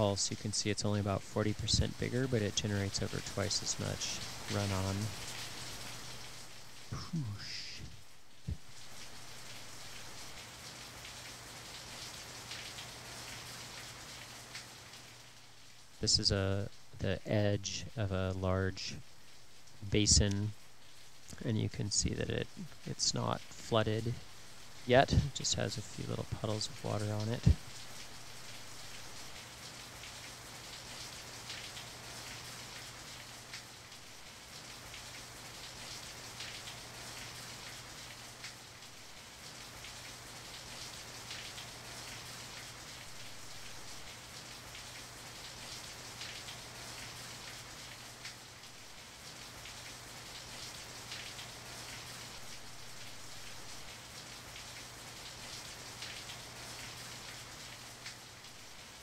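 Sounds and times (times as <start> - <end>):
rain on a wet street: 0.0 - 59.0.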